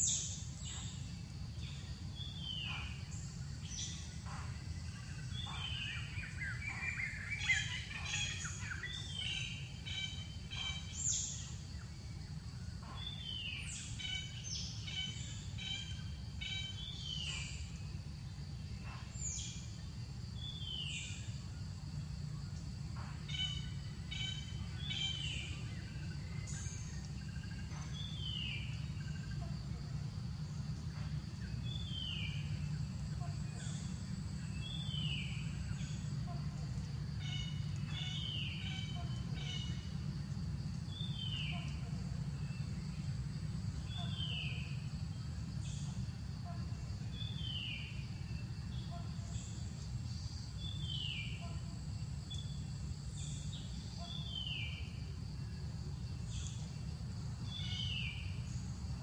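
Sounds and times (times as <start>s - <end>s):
birds calling: 0.0s - 21.5s, 22.5s - 51.6s
low background hum: 0.0s - 59.0s.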